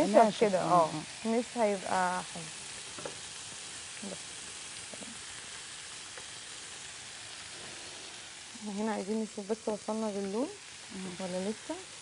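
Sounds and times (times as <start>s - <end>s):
meat sizzling in a grill pan: 0.0s - 12.0s.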